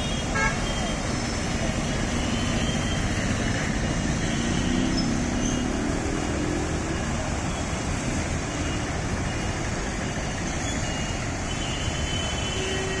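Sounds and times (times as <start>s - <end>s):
water gushing and splashing: 0.2s - 12.4s.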